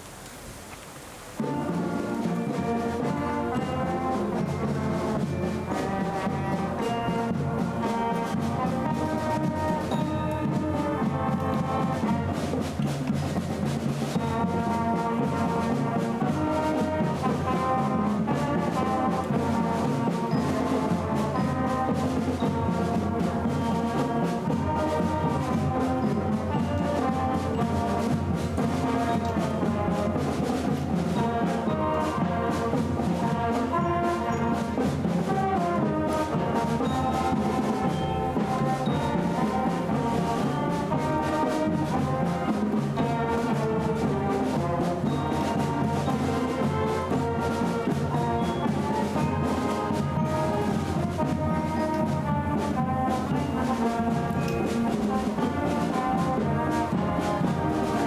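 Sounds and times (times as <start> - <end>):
concert band with brass: 0.0 - 58.0.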